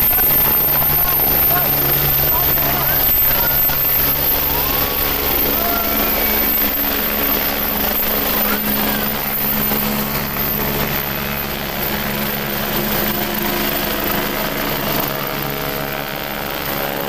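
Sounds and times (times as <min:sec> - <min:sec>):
helicopter rotor and turbine drone: 0:00.0 - 0:17.0.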